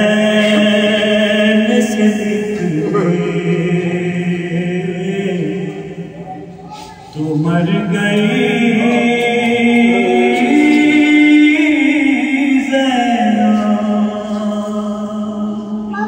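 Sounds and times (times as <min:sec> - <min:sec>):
man singing into a microphone: 0:00.0 - 0:06.2, 0:07.1 - 0:16.0.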